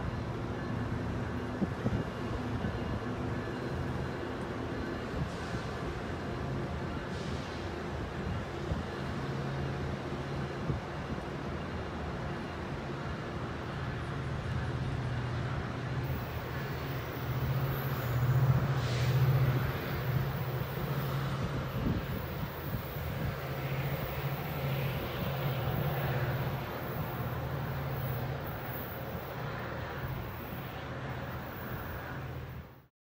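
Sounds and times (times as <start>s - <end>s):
diesel train drone: 0.0s - 32.9s
wheels rumbling on rail: 0.0s - 32.9s.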